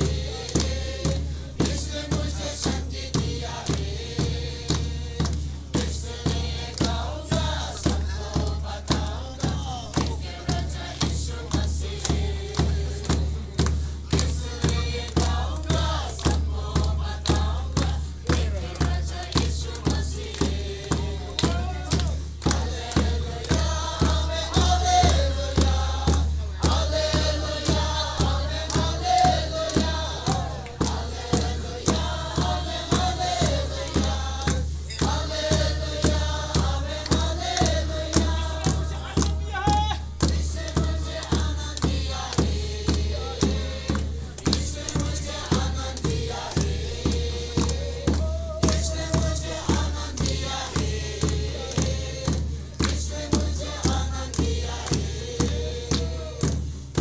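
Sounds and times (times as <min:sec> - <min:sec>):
crowd singing gospel song: 0:00.0 - 0:57.0
hand-struck drum beat: 0:00.0 - 0:57.0
hands clapping: 0:00.0 - 0:57.0.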